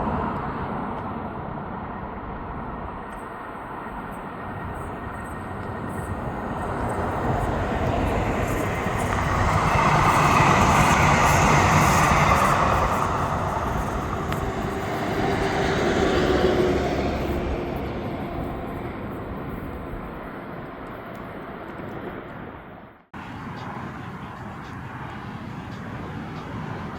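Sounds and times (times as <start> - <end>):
light rail train passing: 0.0 - 26.9.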